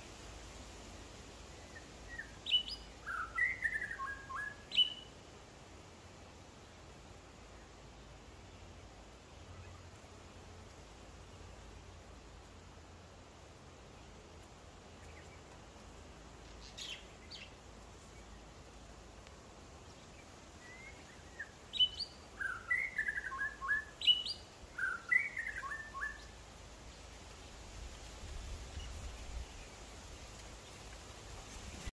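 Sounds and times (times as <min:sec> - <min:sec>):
songbird chirping: 0:00.0 - 0:05.6, 0:06.5 - 0:31.9
faint background noise: 0:00.0 - 0:31.9.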